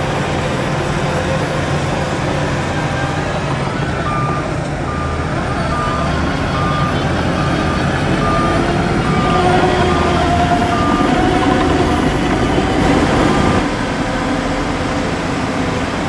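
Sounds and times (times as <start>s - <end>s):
diesel engine drone: 0.0s - 16.0s
reversing alarm beeping: 0.1s - 13.7s.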